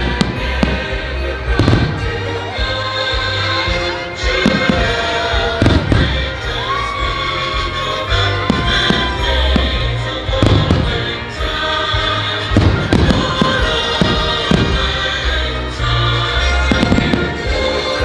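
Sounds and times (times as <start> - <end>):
fireworks bangs and crackles: 0.0 - 18.0
loud show music over speakers: 0.0 - 18.0.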